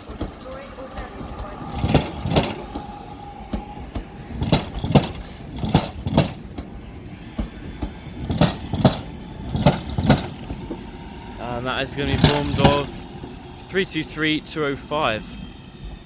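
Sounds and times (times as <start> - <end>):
low train rumble: 0.0 - 16.0
train wheels clacking over rail joints: 0.0 - 16.0.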